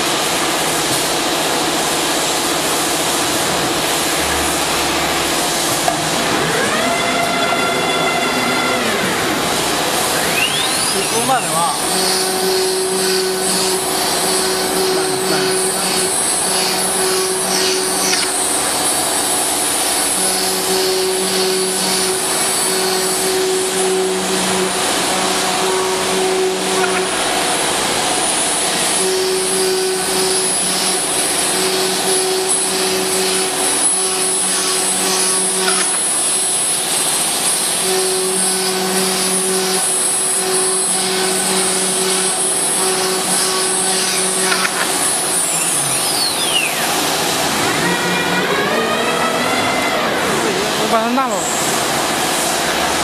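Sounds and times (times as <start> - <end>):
low drone: 2.5 - 53.0
router spindle cutting wood: 3.3 - 53.0.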